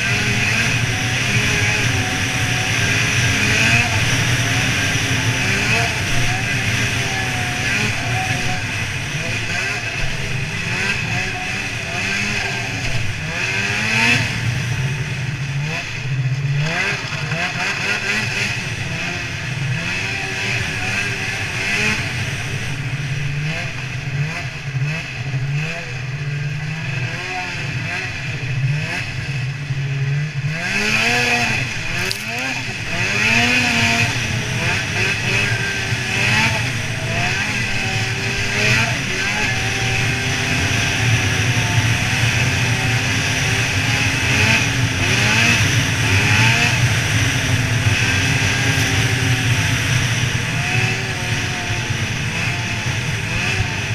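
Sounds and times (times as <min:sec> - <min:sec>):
snowmobile engine running: 0:00.0 - 0:53.9.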